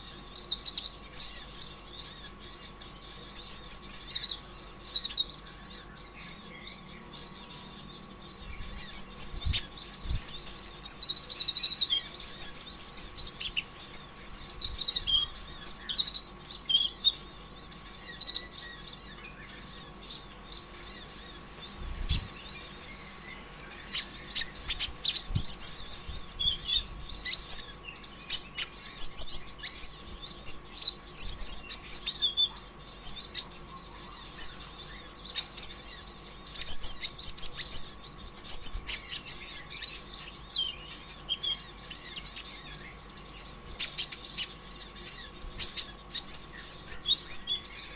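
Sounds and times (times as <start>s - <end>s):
bird twittering song: 0.0s - 47.9s.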